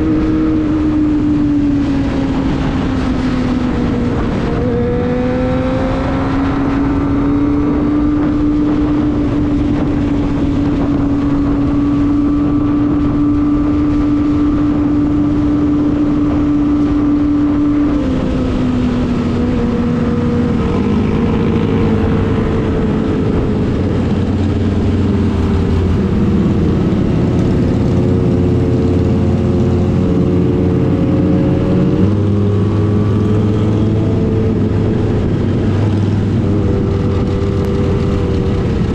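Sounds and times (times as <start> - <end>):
motorcycle engine revving: 0.0 - 38.9
steady rushing noise: 0.0 - 38.9.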